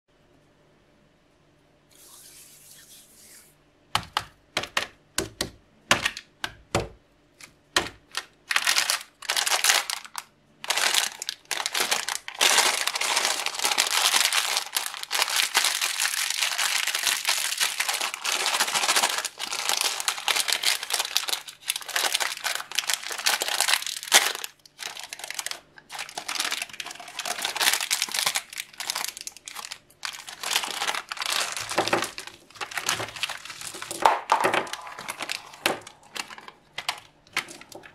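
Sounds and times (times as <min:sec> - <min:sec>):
plastic wrapper crinkling: 0:07.4 - 0:37.9.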